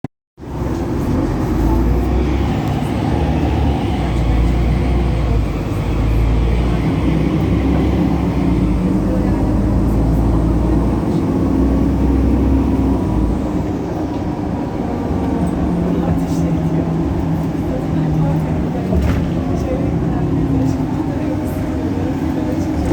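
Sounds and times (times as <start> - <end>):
diesel bus engine running: 0.4 - 22.9.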